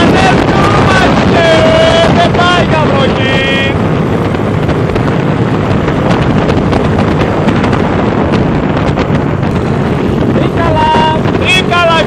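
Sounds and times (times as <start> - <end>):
motorcycle engine: 0.0 - 12.0
wind buffeting clicks: 0.0 - 12.0
wind noise on microphone: 0.0 - 12.0.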